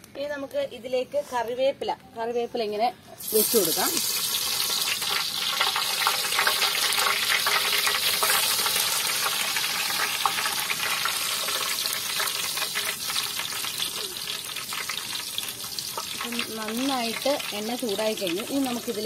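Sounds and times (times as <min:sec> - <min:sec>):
leaves sizzling in hot oil: 0:03.2 - 0:19.0.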